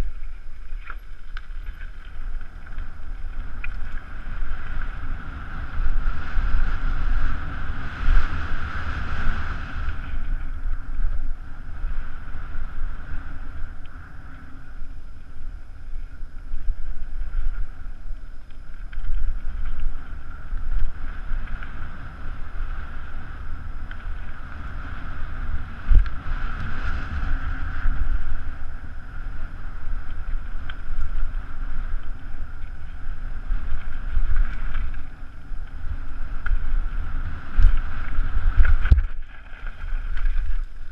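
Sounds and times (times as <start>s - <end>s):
mountain bike rolling rumble: 0.0s - 40.9s
wind buffeting microphone: 0.0s - 40.9s.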